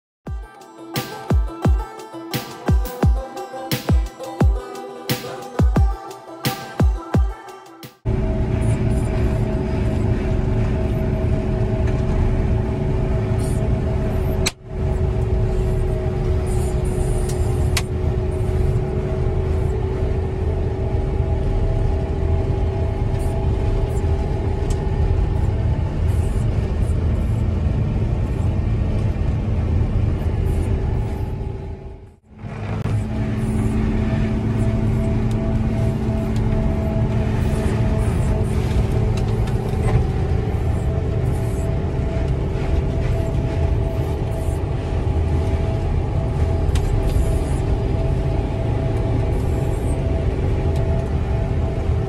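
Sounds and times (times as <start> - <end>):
steady whine: 0.3 - 52.0
diesel engine rumbling: 8.0 - 52.0.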